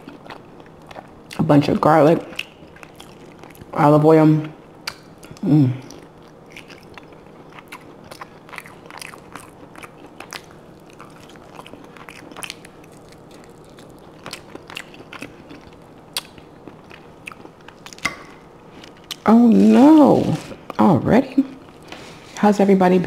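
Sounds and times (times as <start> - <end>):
person chewing food: 0.0 - 1.4, 2.2 - 3.8, 4.4 - 20.8.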